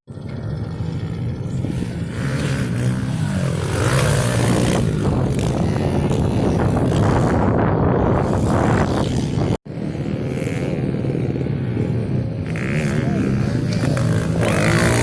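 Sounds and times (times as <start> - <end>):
pit bike engine revving: 0.2 - 15.0.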